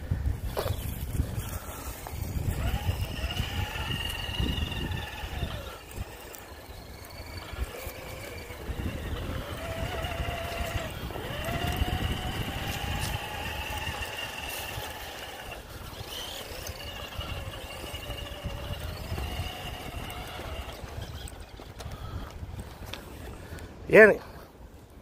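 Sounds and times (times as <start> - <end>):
electric motor and gearbox whine: 0.3 - 23.4.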